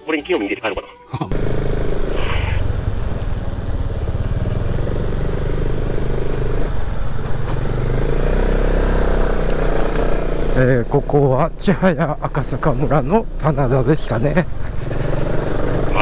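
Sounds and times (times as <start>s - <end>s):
road noise: 0.0s - 16.0s
scooter engine running: 1.3s - 13.5s, 14.4s - 16.0s.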